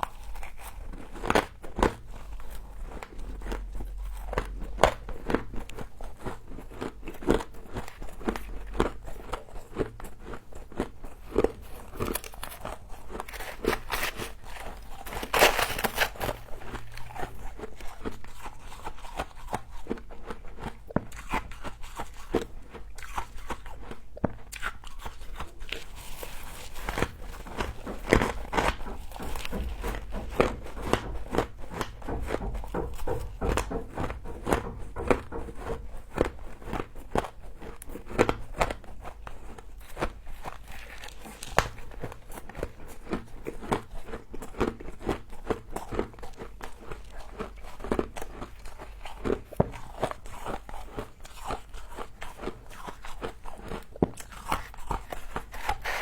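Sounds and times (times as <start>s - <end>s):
biting and chewing frost: 0.0s - 56.0s.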